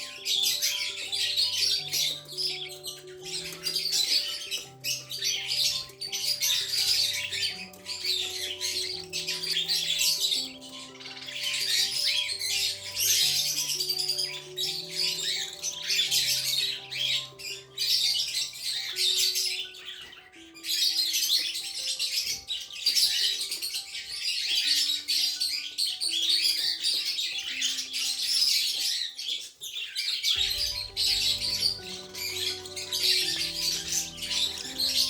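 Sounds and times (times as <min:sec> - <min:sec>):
background music with held notes: 0:00.0 - 0:35.0
budgerigars chirping and chattering: 0:00.0 - 0:35.0.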